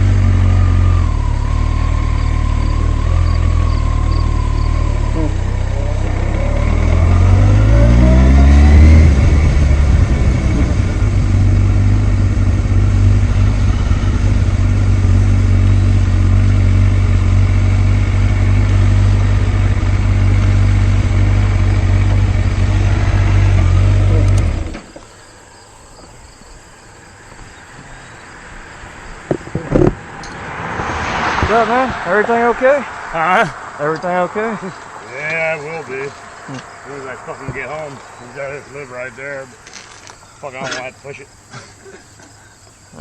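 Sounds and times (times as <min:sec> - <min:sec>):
motorcycle engine accelerating: 0:00.0 - 0:25.1, 0:27.3 - 0:40.2.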